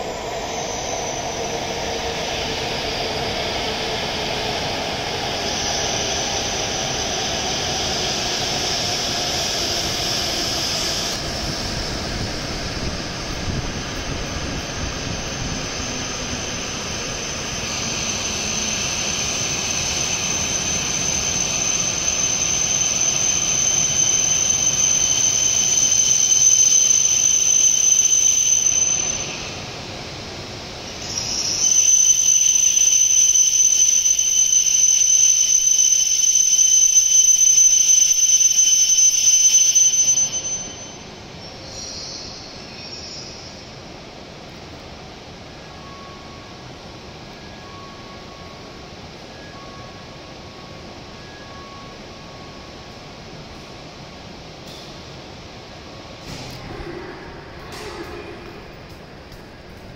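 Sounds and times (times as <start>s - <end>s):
rolling rumble of train cars: 0.0s - 59.9s
train brakes squealing: 0.0s - 59.9s.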